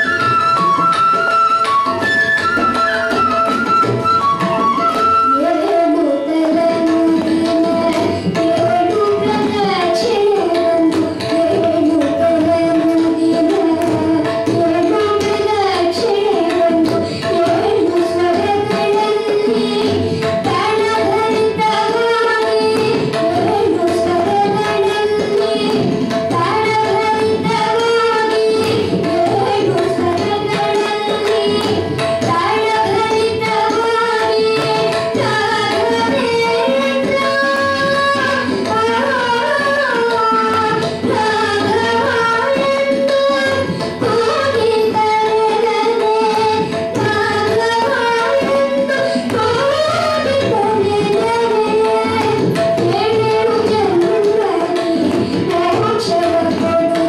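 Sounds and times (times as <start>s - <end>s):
tabla: 0.0s - 57.0s
boy singing: 3.0s - 57.0s.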